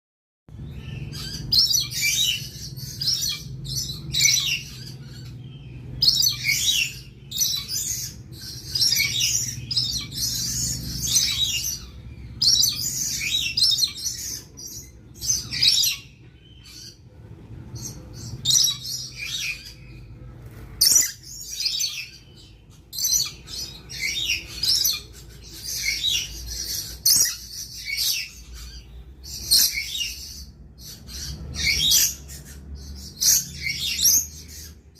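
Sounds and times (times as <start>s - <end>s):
lorikeets screeching: 0.5s - 34.9s.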